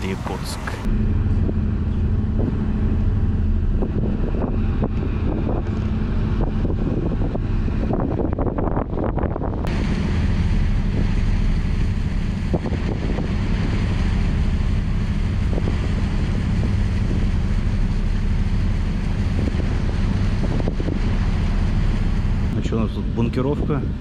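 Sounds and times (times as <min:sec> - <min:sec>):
ship engines droning: 0:00.0 - 0:24.0
wind buffeting microphone: 0:00.0 - 0:24.0.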